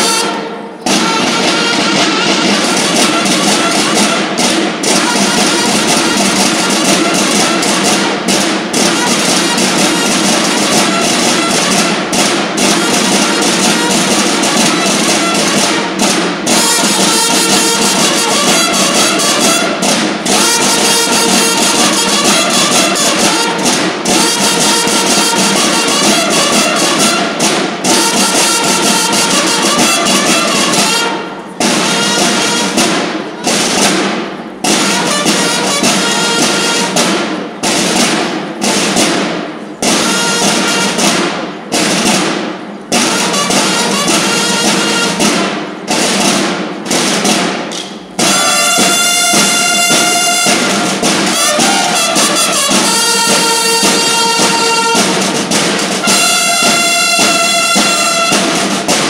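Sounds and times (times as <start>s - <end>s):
bugles sounding together: 0.0s - 59.0s
snare drums: 0.0s - 59.0s.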